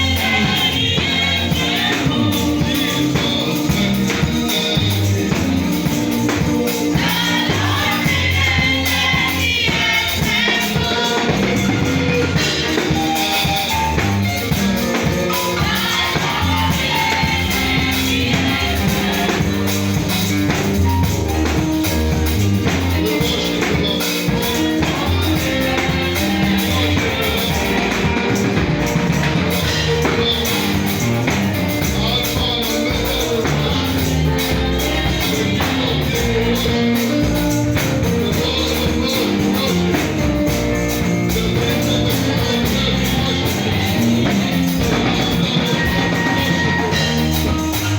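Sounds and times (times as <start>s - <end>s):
gospel music with singing: 0.0s - 47.9s.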